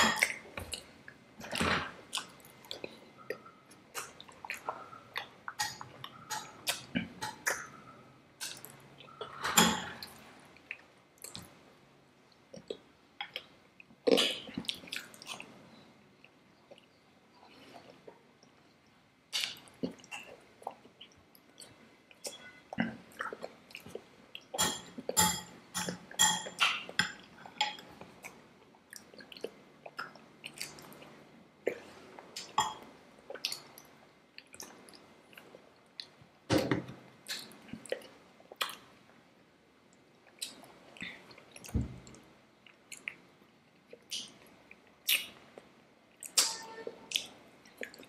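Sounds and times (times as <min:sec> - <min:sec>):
chewing and wet mouth sounds: 0:00.0 - 0:09.4, 0:10.0 - 0:11.6, 0:12.3 - 0:36.3, 0:37.2 - 0:39.0, 0:39.9 - 0:48.0.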